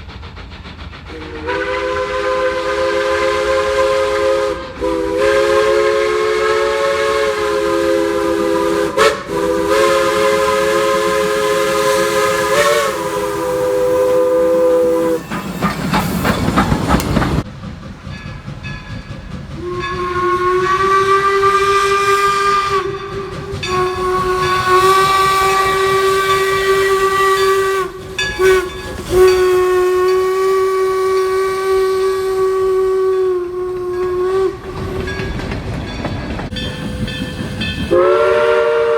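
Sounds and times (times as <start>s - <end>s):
rush of steam noise: 0.0s - 38.9s.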